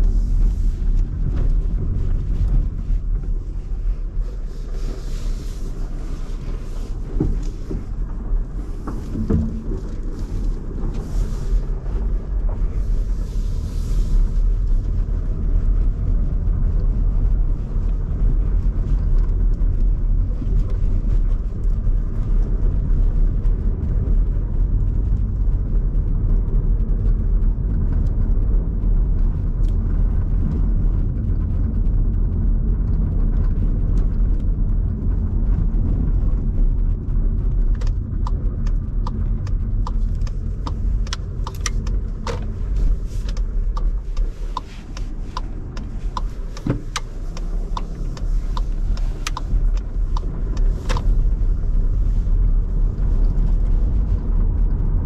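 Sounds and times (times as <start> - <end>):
car engine: 0.0 - 55.0
car tyre and road noise: 0.0 - 55.0.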